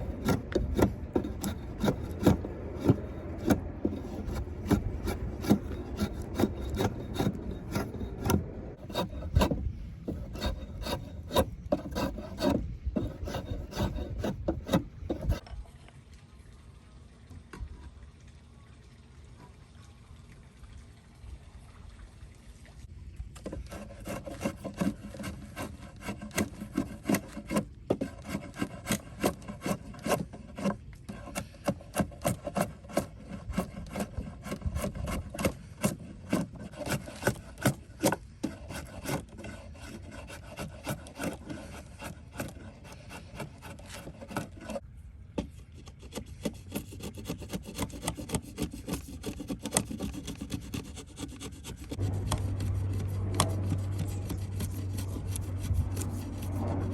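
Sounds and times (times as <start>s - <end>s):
rasp scraping wood: 0.0s - 15.4s, 23.4s - 44.8s, 45.4s - 56.9s.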